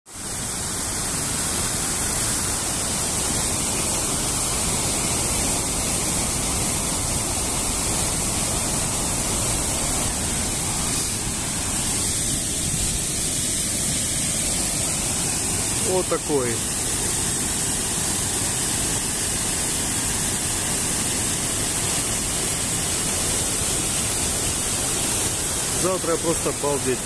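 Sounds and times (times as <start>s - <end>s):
rushing water: 0.1s - 27.0s.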